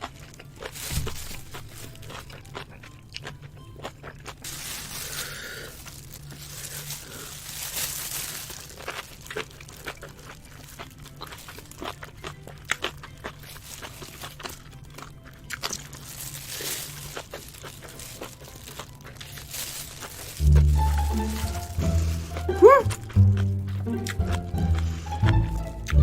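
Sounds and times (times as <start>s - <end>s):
crunchy wet chewing: 0.0s - 26.0s.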